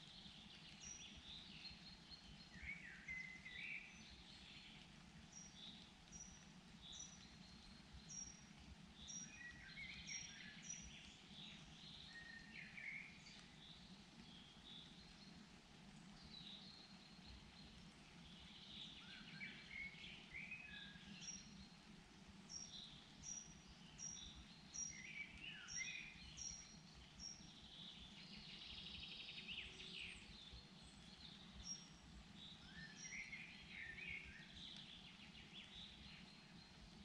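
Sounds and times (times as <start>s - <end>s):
woodland birdsong: 0.0s - 37.0s.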